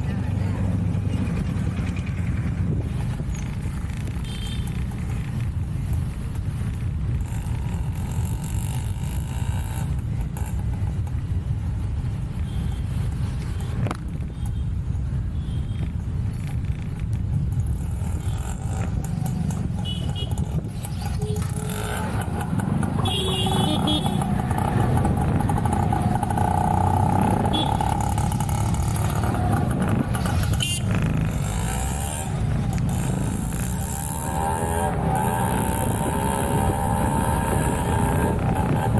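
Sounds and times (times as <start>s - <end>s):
motorbikes passing: 0.0s - 14.2s, 15.0s - 38.9s
street traffic rumble: 0.0s - 38.9s.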